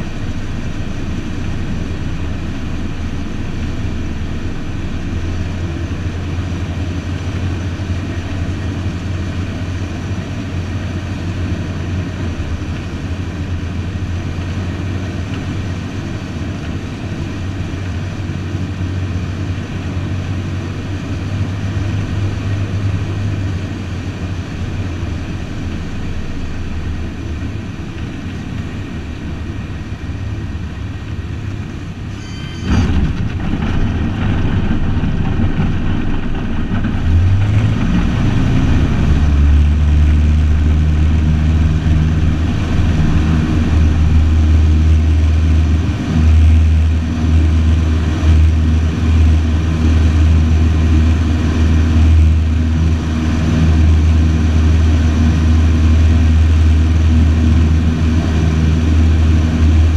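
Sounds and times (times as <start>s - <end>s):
aircraft piston engine and propeller: 0.0s - 59.9s.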